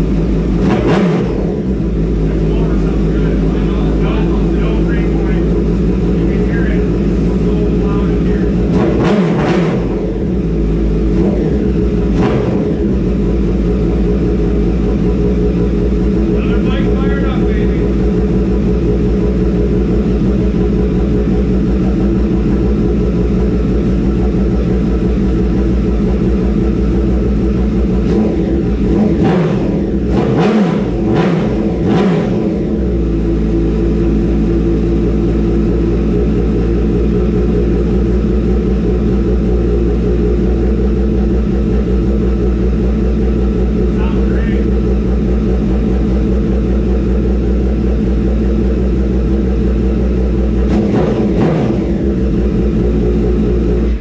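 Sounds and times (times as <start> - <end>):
engine revving: 0.0 - 54.0
motorcycle engine idling: 0.0 - 54.0.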